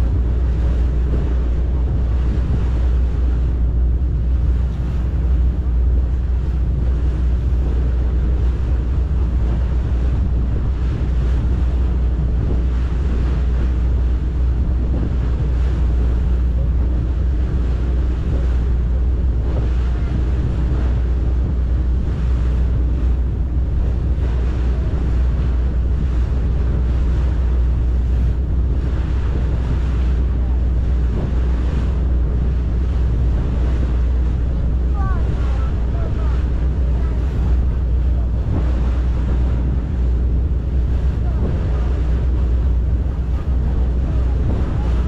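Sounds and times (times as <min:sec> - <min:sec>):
boat engine rumble: 0:00.0 - 0:45.0
water rushing past hull: 0:00.0 - 0:45.0
wind buffeting microphone: 0:00.0 - 0:45.0.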